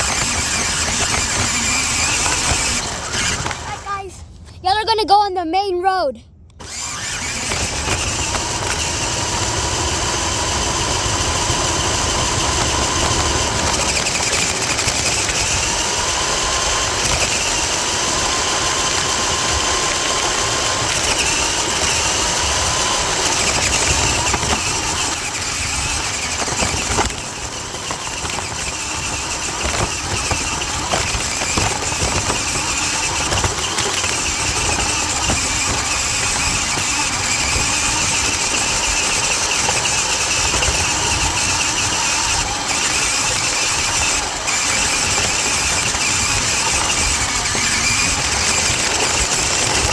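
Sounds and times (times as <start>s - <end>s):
toy truck electric motor whining: 0.0s - 4.1s, 6.5s - 49.9s.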